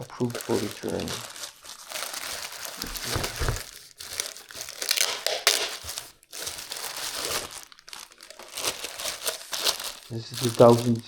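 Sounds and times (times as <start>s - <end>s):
packing material crinkling: 0.0s - 11.0s.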